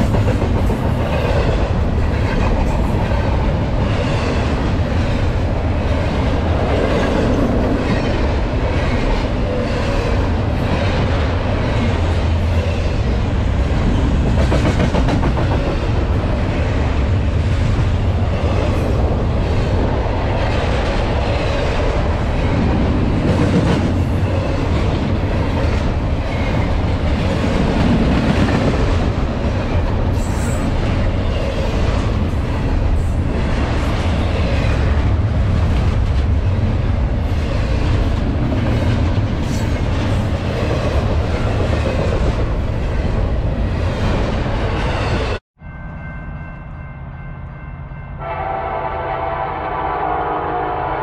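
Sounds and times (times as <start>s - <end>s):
freight train rumbling past: 0.0s - 51.0s.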